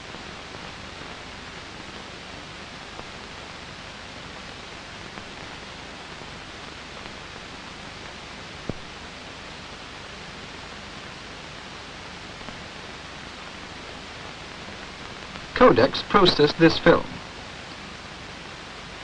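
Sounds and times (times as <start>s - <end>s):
film soundtrack hiss: 0.0s - 19.0s.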